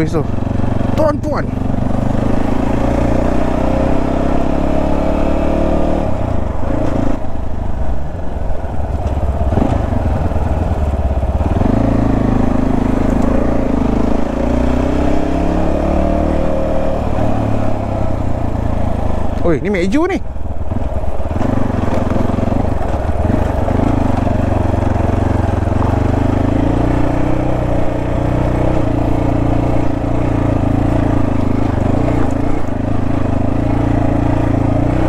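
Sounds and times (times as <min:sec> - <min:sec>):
motorcycle engine and exhaust: 0:00.0 - 0:35.0.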